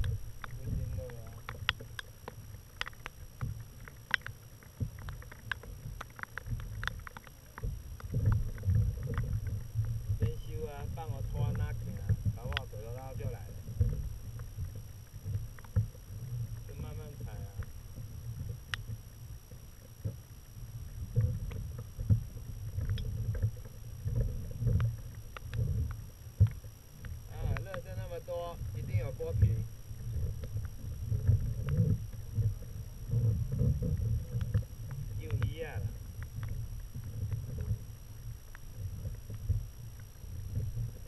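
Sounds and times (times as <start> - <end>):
low steady rumble: 0.0 - 41.0
water lapping against a kayak: 0.0 - 41.0.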